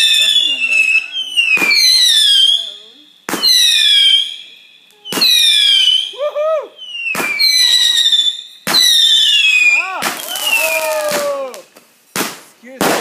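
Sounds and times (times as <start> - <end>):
whistling firework rockets launching: 0.0 - 13.0.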